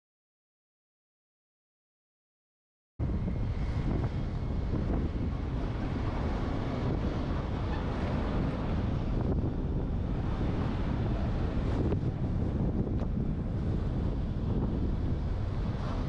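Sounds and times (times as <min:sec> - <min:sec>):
wind buffeting microphone: 0:03.0 - 0:16.0.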